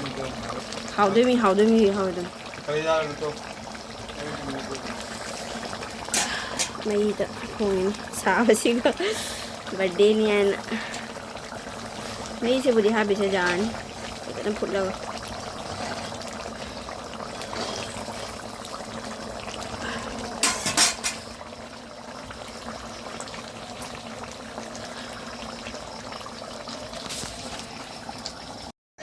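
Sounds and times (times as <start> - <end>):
pot of food bubbling: 0.0 - 28.7.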